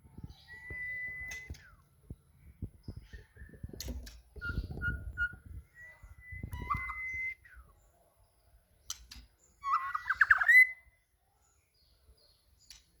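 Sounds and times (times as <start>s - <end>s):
bird singing whistled notes: 0.1s - 1.9s, 2.8s - 8.4s, 9.4s - 12.8s.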